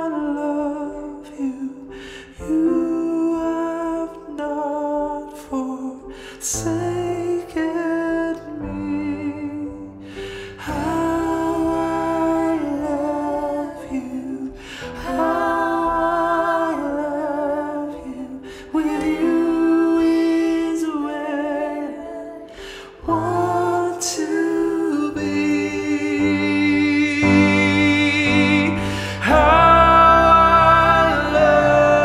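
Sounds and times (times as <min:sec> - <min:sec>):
man and woman singing in harmony: 0:00.0 - 0:32.0.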